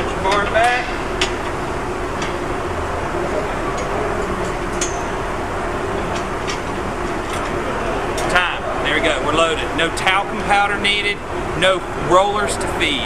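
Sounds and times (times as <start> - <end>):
steady background rumble: 0.0 - 13.0.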